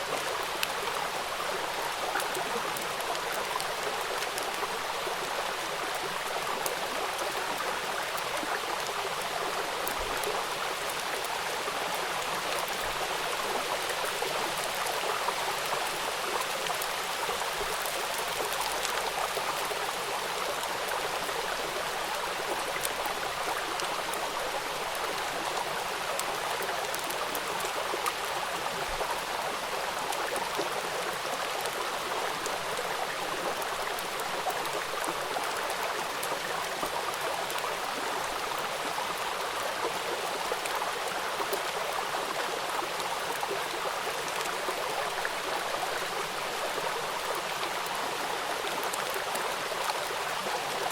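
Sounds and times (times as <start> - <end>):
rain falling on river: 0.0 - 50.9.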